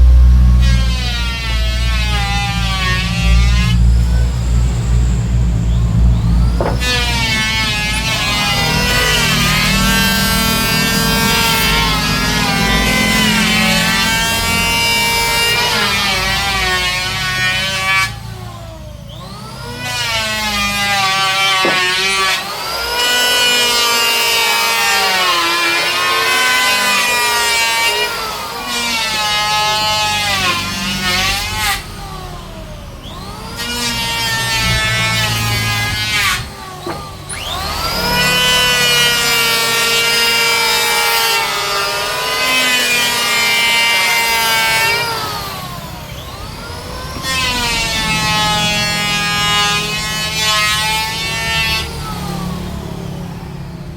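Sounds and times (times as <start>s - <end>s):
power tool cutting wood: 0.0s - 53.9s.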